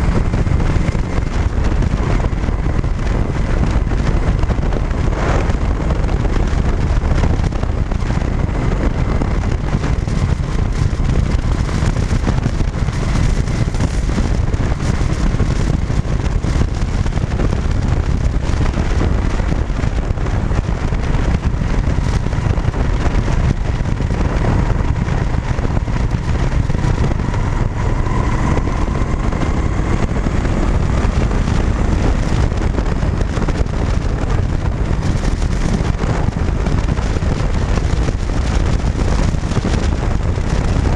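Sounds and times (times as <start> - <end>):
motorcycle engine and tyre noise: 0.0 - 40.9
wind on microphone: 0.0 - 40.9.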